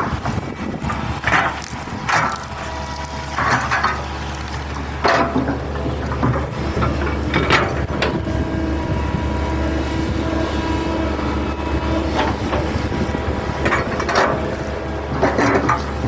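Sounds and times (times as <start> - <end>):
excavator diesel engine humming: 0.0 - 16.0
hydraulic whine: 0.0 - 16.0.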